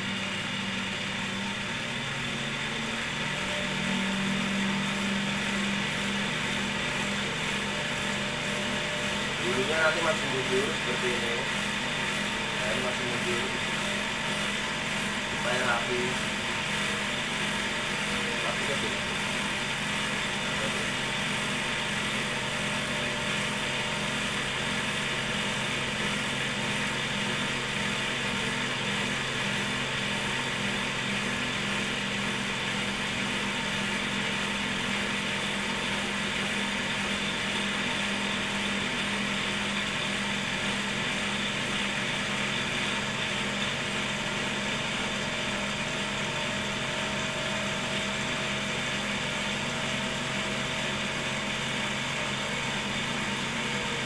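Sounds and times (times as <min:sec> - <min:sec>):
cotton candy machine whirring: 0:00.0 - 0:54.0.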